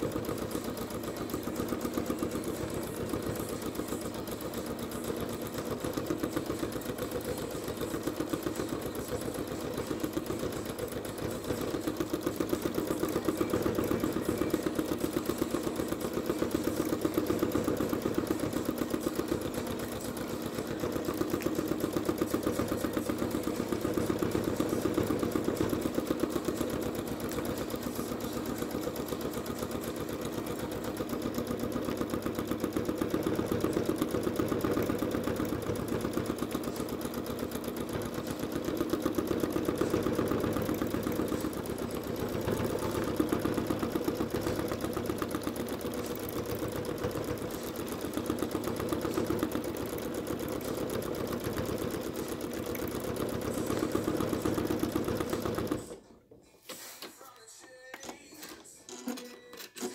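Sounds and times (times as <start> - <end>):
sewing machine stitching: 0.0 - 59.9.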